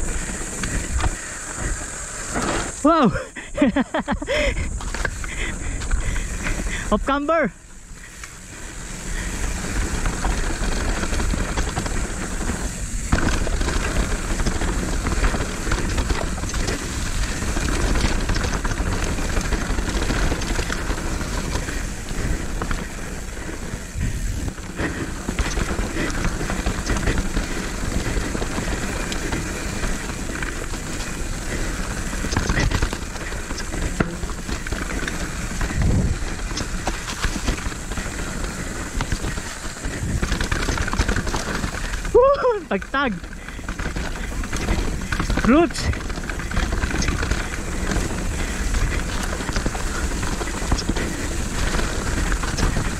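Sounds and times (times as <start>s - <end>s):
bike chain and frame rattling: 0.0s - 52.9s
tyres rolling over dirt: 0.0s - 52.9s
wind rushing over microphone: 0.0s - 52.9s.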